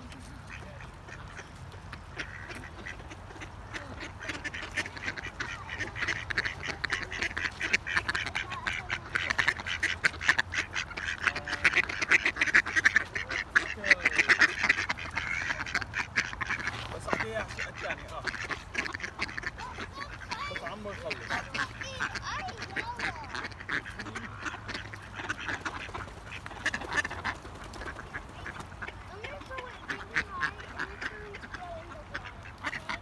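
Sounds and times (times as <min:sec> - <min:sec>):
ducks quacking: 0:00.0 - 0:33.0.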